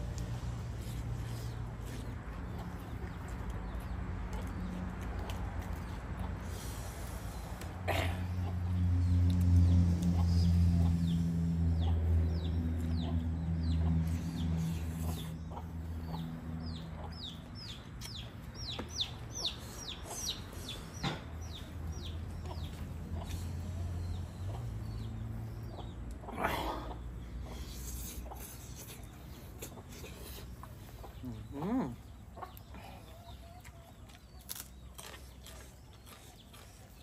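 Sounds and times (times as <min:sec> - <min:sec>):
chickens peeping: 0:00.1 - 0:37.0.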